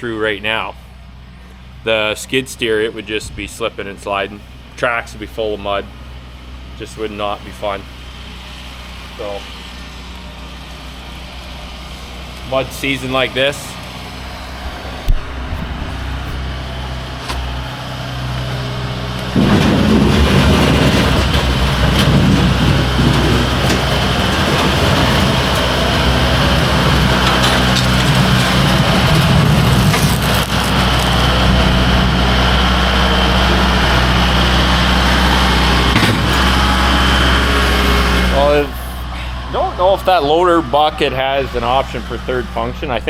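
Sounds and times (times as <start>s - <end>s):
tractor diesel engine revving: 1.6s - 43.0s.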